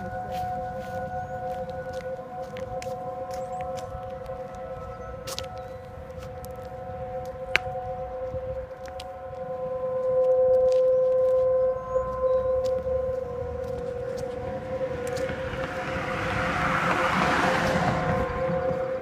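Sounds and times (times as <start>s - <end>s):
warning sirens steady tone: 0.0s - 19.0s.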